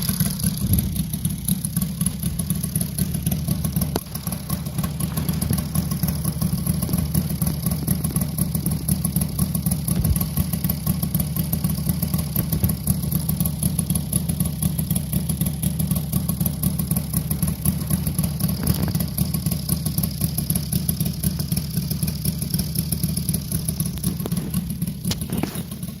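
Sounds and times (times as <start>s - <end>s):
model aircraft engine running: 0.0s - 26.0s.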